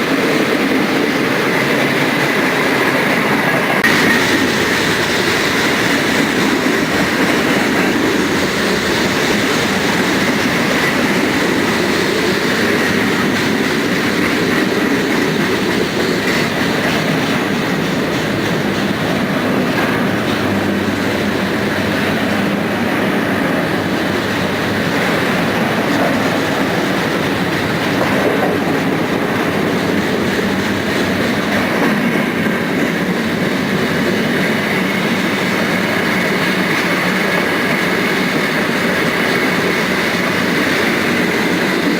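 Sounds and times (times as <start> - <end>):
freight train rolling past: 0.0 - 41.9
train wheels on rails: 0.0 - 41.9.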